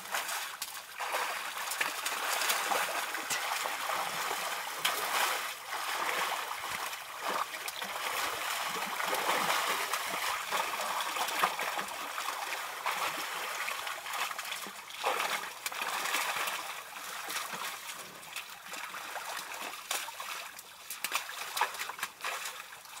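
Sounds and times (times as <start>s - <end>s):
elephants splashing in mud: 0.0s - 13.2s, 13.9s - 17.7s, 19.0s - 22.7s.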